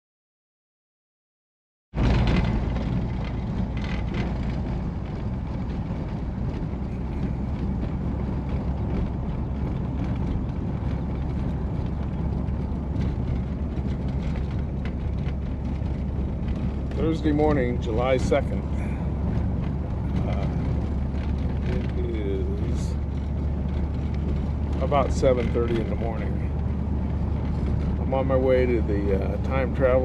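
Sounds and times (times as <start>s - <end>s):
car engine and road rumble: 1.9s - 30.0s.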